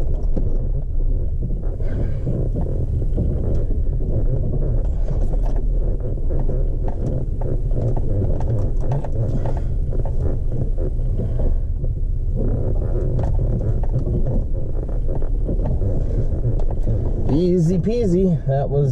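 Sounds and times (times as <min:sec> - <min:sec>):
low vehicle cab rumble: 0:00.0 - 0:18.9.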